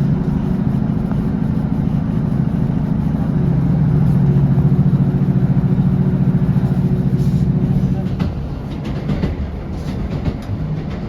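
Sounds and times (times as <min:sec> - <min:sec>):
train diesel engine running: 0:00.0 - 0:11.0.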